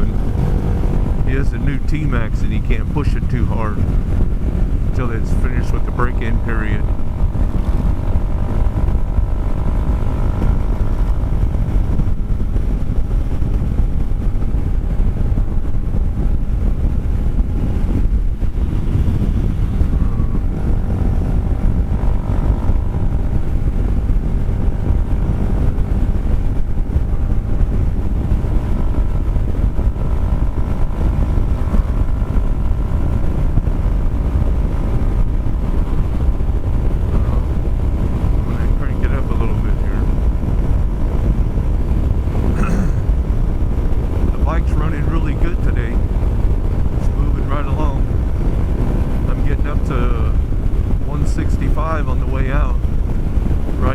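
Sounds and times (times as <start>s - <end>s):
scooter engine running steadily: 0.0s - 53.9s
wind rushing over microphone: 0.0s - 53.9s.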